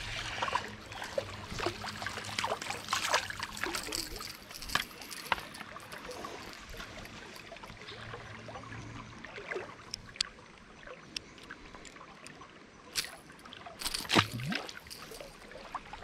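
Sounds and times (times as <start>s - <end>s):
creek water running: 0.0s - 16.0s
small water splashes: 0.0s - 16.0s.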